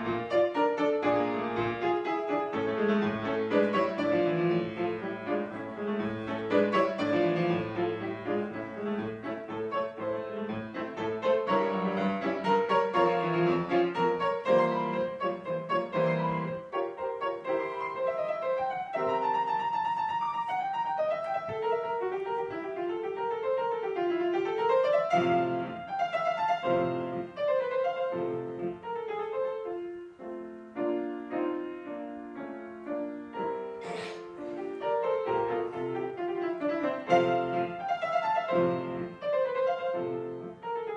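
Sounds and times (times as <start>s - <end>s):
classical piano music: 0.0s - 40.9s.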